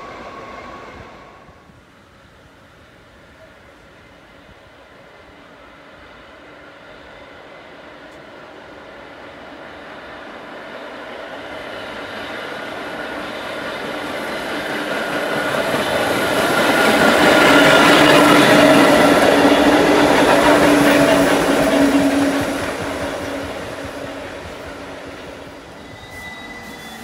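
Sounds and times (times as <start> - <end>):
subway train wheels rumbling: 0.0 - 27.0
train low whine: 0.0 - 27.0.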